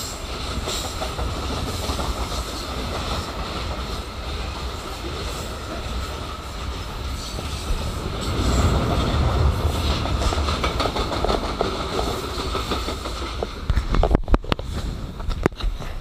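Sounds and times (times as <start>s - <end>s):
clickety-clack over rail joints: 0.0s - 16.0s
train wheels rumbling: 0.0s - 16.0s.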